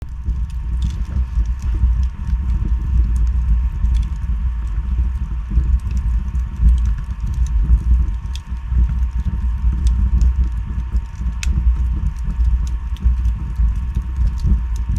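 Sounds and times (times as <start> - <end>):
fire crackling and popping: 0.0 - 14.9
fire rumbling: 0.0 - 14.9.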